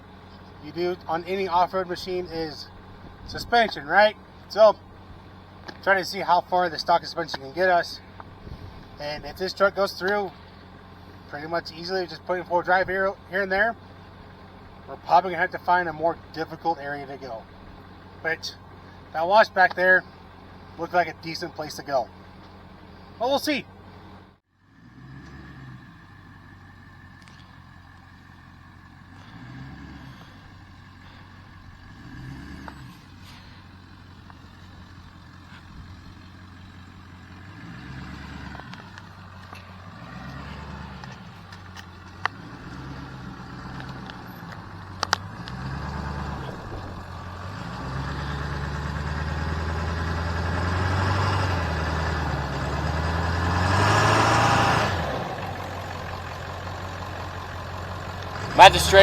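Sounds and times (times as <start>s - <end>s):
pickup truck engine running: 0.0s - 59.0s.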